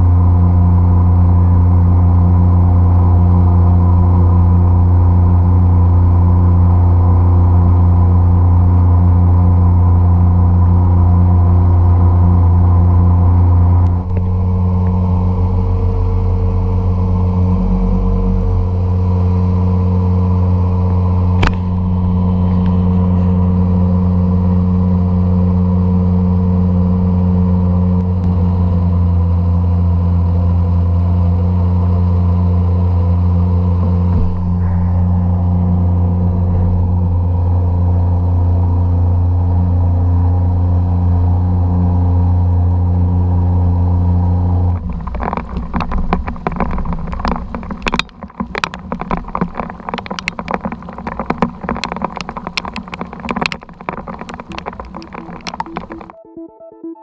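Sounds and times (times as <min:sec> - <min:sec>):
outboard engine running: 0:00.0 - 0:56.2.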